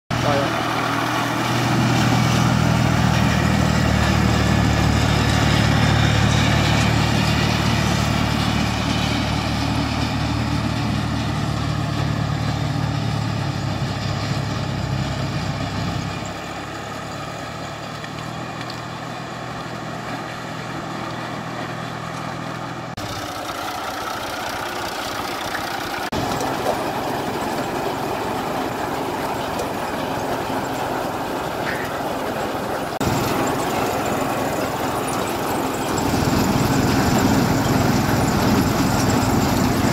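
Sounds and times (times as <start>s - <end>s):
tractor diesel engine running: 0.1s - 39.9s.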